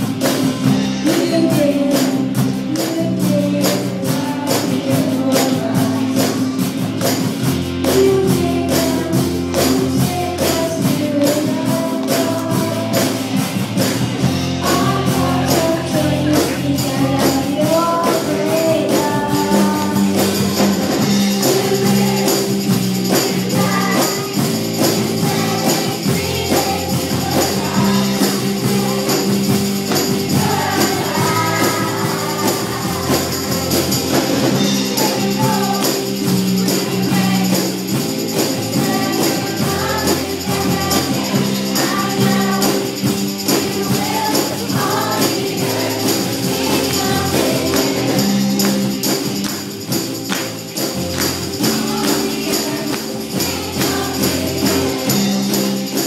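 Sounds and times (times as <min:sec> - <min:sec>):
children's choir singing: 0:00.0 - 0:56.0
instrumental accompaniment: 0:00.0 - 0:56.0
steady percussion beat: 0:00.0 - 0:56.0.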